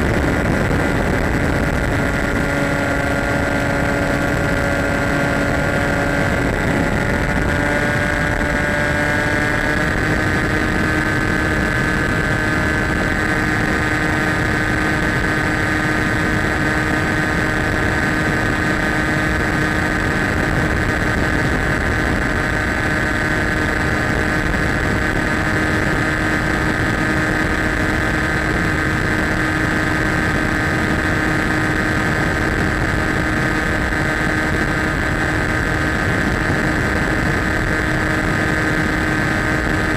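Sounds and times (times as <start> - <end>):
wind noise: 0.0 - 39.9.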